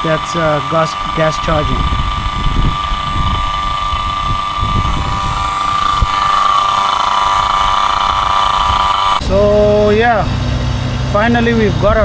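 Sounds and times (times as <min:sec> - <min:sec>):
vacuum pump whining: 0:00.0 - 0:12.0.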